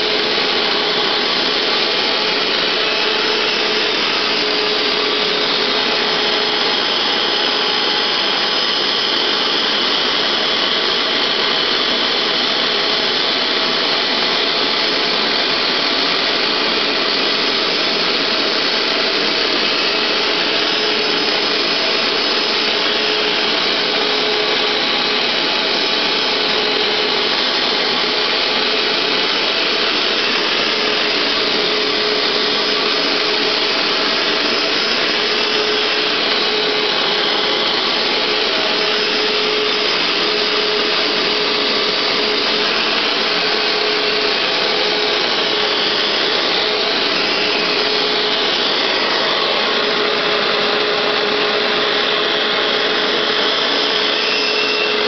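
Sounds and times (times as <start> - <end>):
carpet cleaner running: 0.0 - 55.0.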